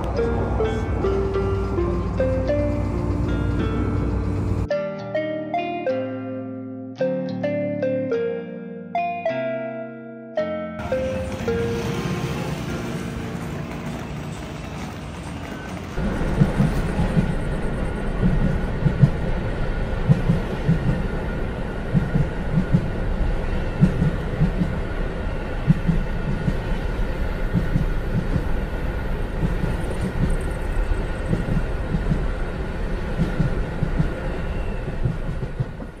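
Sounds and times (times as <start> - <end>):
train rumble inside carriage: 0.0 - 4.7, 10.8 - 36.0.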